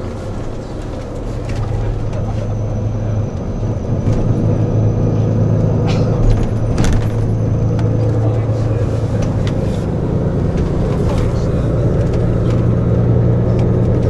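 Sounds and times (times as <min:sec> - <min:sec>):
coach engine drone: 0:00.0 - 0:14.0
road noise: 0:00.0 - 0:14.0.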